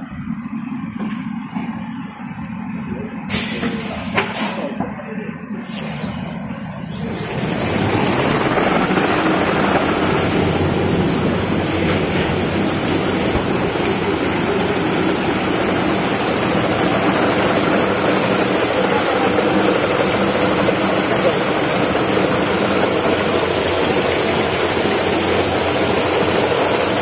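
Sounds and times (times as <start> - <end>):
machine rollers humming and whirring: 0.0 - 27.0.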